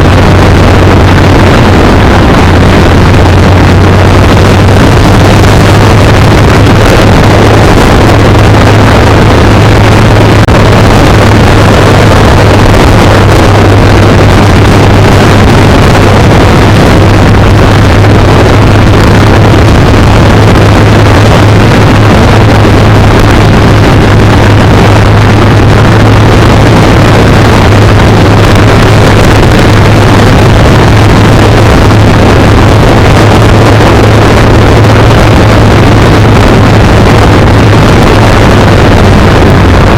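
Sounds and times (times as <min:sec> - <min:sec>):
motorcycle engine droning: 0:00.0 - 0:39.9
wind rushing over microphone: 0:00.0 - 0:39.9.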